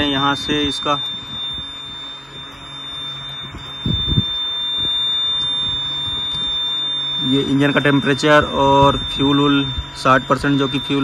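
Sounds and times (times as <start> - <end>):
high-pitched warning beep: 0.0 - 11.0.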